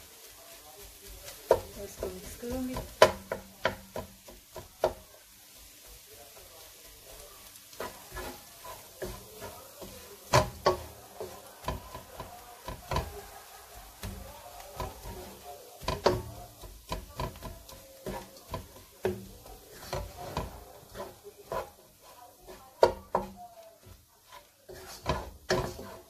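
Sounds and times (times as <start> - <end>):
spatula scraping and knocking pan: 0.0 - 26.0.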